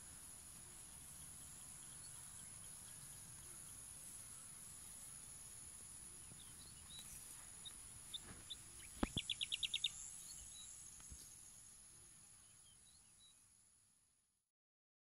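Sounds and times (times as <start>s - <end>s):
insects trilling: 0.0s - 13.7s.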